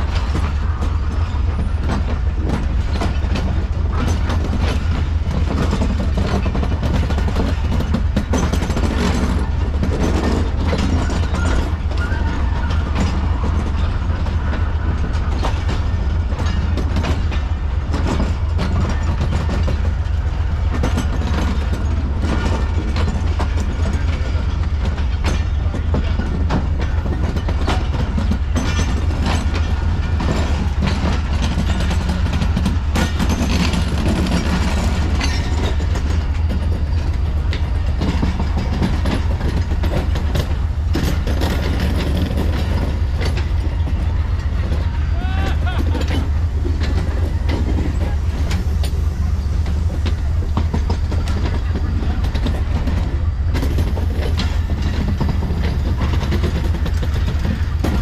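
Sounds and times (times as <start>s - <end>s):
train rumble: 0.0s - 58.0s
train wheels clacking: 0.0s - 58.0s.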